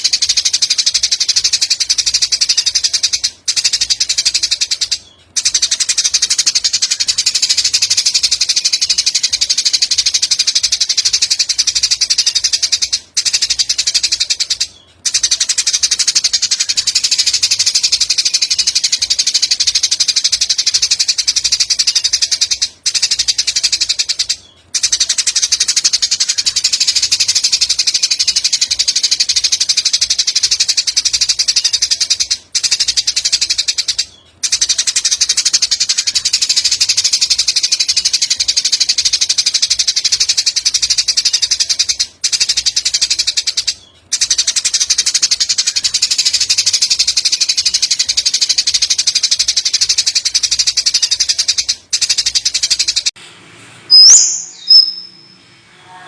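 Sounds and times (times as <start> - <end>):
songbird high-pitched trill: 0.0 - 53.1, 53.9 - 56.0.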